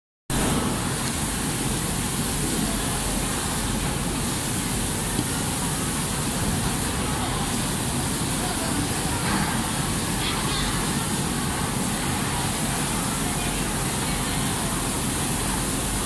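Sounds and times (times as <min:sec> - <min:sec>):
machinery and ventilation hiss: 0:00.3 - 0:16.0.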